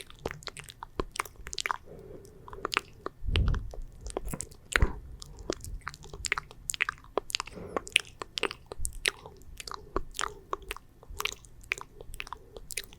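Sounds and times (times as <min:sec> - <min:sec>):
wet mouth clicks and smacks: 0:00.0 - 0:12.9.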